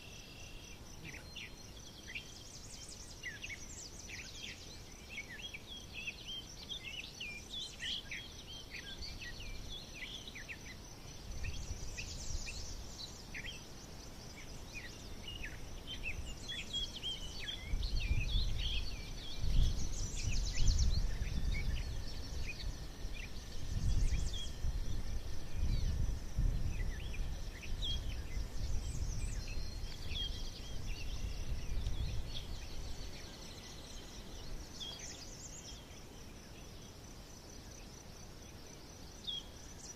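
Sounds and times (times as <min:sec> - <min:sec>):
high insect-like hiss: 0:00.0 - 0:39.9
small birds singing and chirping: 0:00.0 - 0:39.9.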